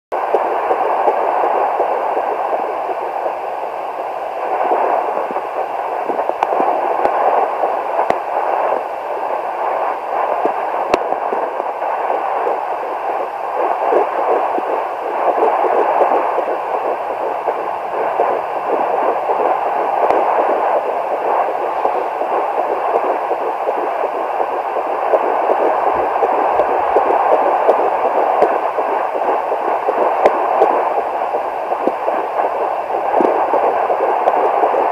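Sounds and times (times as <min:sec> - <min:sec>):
fetal heartbeat whooshing pulse: 0:00.2 - 0:34.9
steady hiss: 0:00.2 - 0:34.9.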